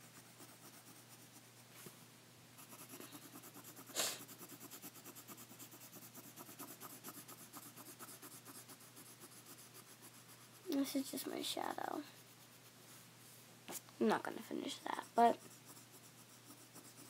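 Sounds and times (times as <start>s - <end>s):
pencil scribbling on paper: 0.0s - 1.5s, 2.6s - 12.8s, 14.4s - 17.0s.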